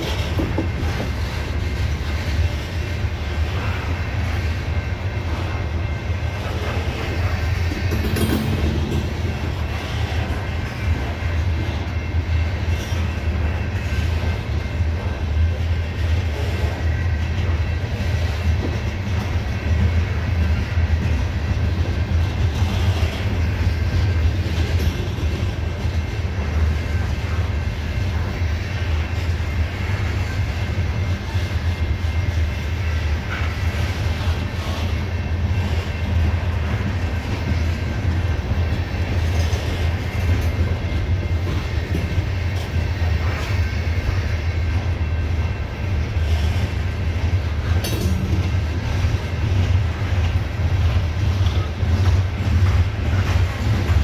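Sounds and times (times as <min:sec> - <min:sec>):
freight cars rolling on rails: 0:00.0 - 0:54.0.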